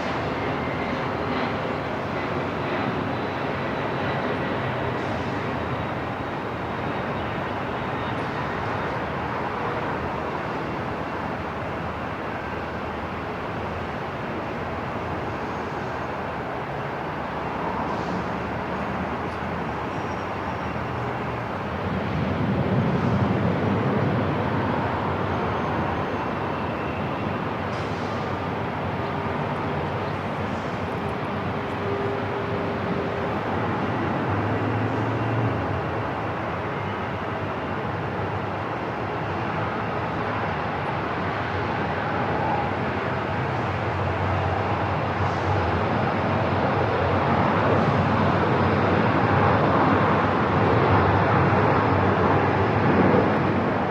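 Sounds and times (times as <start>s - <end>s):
steady wash of noise: 8.5s - 53.9s.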